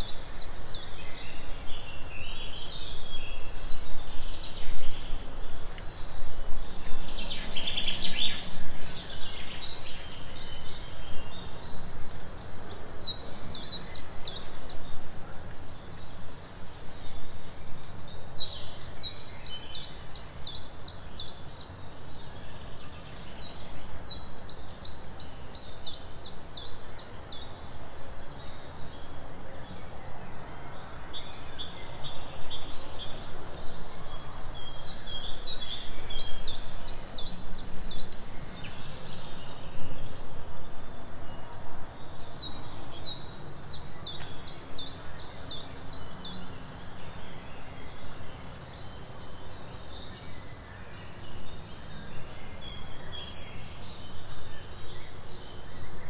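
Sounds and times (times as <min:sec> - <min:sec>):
low background noise: 0:00.0 - 0:56.0
songbirds singing: 0:00.0 - 0:56.0.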